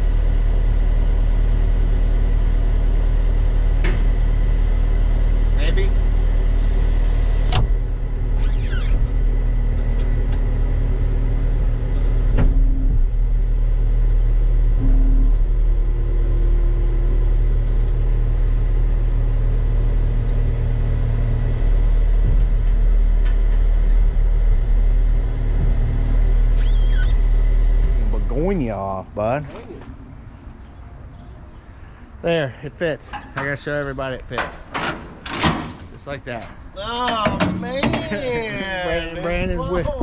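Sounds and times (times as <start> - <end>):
heavy diesel engine rumbling: 0.0 - 40.0.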